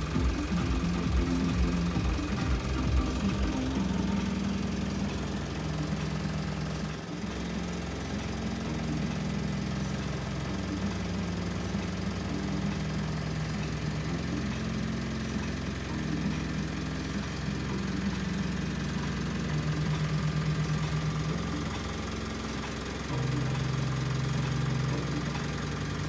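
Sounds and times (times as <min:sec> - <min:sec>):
muffled bass music from van: 0:00.0 - 0:26.0.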